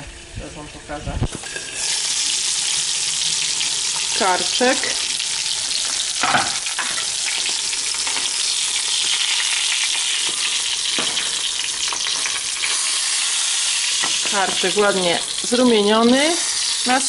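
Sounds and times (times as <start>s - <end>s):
meat sizzling in frying pan: 1.2s - 17.0s.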